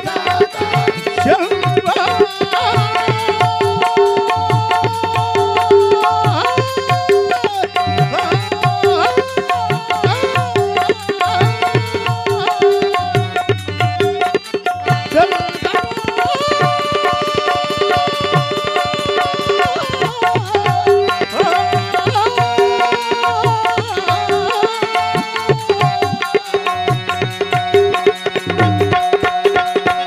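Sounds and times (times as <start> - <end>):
hand drum beats: 0.0 - 30.0
harmonium melody: 0.0 - 30.0.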